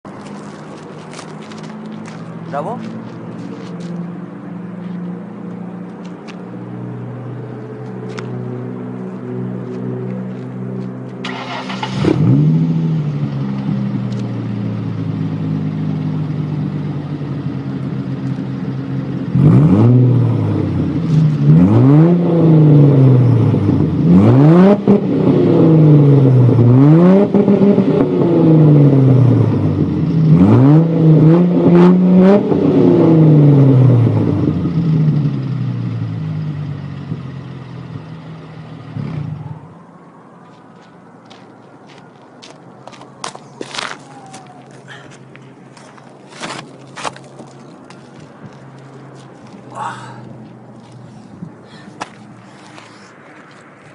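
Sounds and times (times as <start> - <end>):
car engine idling and revving: 0.1 - 53.9.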